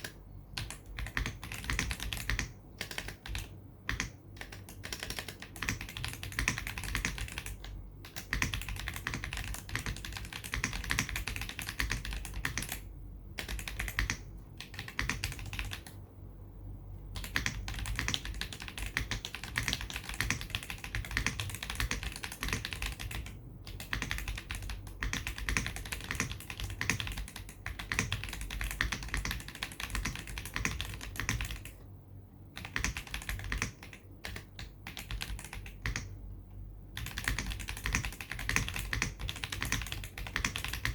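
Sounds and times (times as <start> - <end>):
fast mechanical keyboard typing: 0.0 - 16.0, 17.1 - 31.8, 32.6 - 36.2, 36.9 - 40.9.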